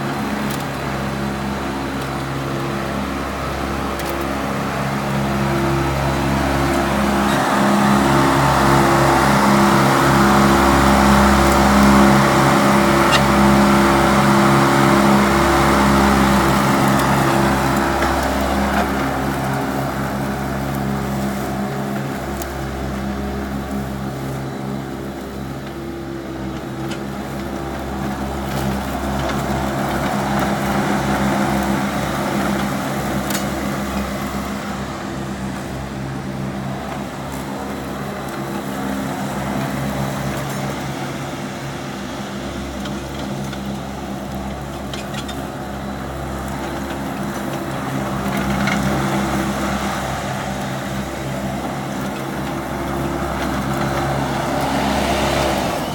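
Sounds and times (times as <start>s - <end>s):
mower engine running: 0.0s - 55.9s.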